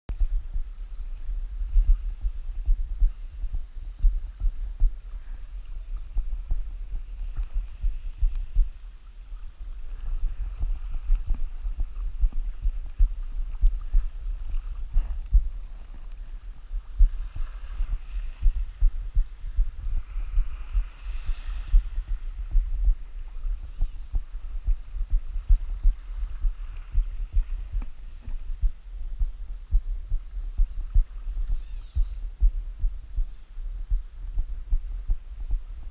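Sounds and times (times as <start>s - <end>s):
faint hiss: 0.1s - 35.9s
wind buffeting microphone: 0.1s - 35.9s.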